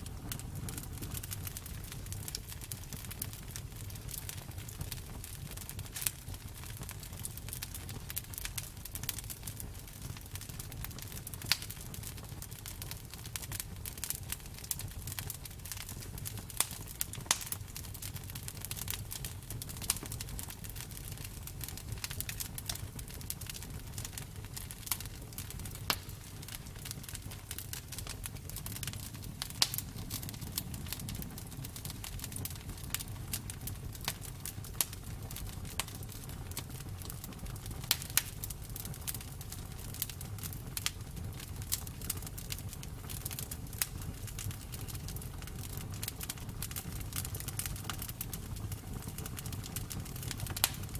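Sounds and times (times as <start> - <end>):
low rumble of flames: 0.0 - 50.9
wood crackling and popping: 0.0 - 50.9.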